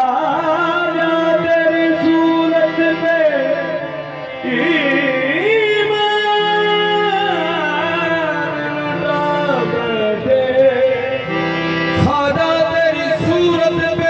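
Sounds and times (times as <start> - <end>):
harmonium chords: 0.0 - 14.0.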